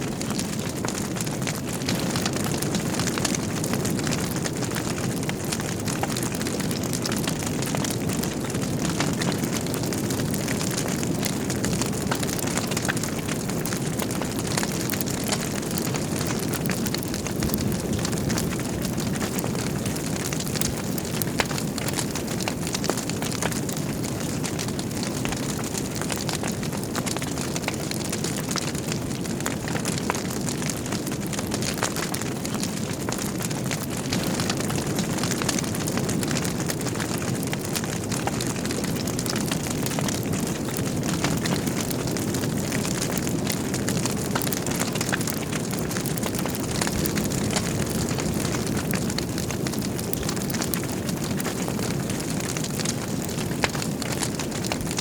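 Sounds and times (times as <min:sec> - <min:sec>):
fire flames rumbling: 0:00.0 - 0:55.0
logs crackling and popping: 0:00.0 - 0:55.0.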